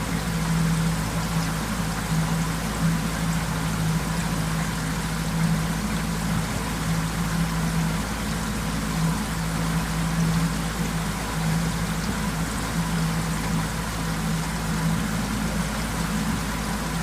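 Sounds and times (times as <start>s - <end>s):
boat motor running: 0.0s - 17.0s
water rushing: 0.0s - 17.0s.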